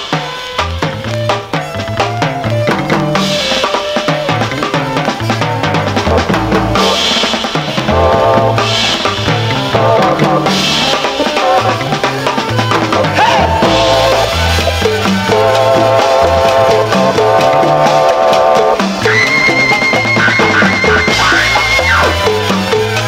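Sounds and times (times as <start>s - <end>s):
latin dance music from vinyl: 4.4s - 23.0s.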